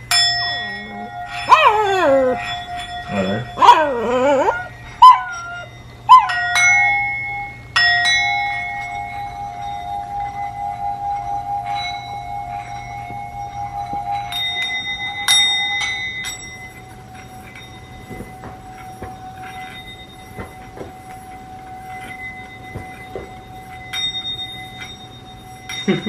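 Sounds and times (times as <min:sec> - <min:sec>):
singing bowl struck: 0:00.0 - 0:26.0
singing bowls ringing: 0:00.0 - 0:26.0.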